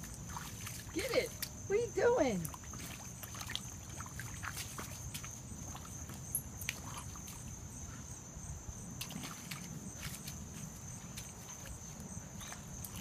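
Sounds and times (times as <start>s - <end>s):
paws slapping in mud: 0.0s - 1.6s, 2.4s - 7.6s, 9.0s - 13.0s.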